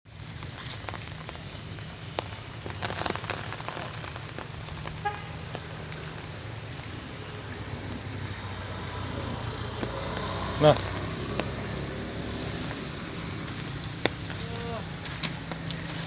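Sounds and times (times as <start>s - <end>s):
rainwater dripping on leaves: 0.1s - 16.0s.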